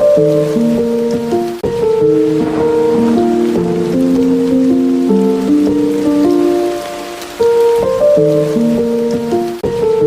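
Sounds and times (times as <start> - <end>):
rain hissing: 0.0 - 10.0
soft instrumental music: 0.0 - 10.0.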